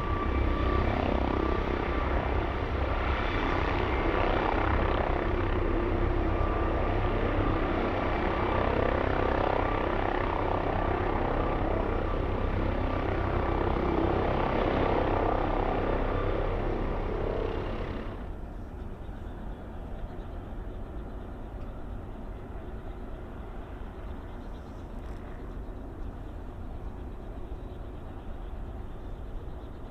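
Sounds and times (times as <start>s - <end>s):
helicopter rotor and engine: 0.0s - 29.9s.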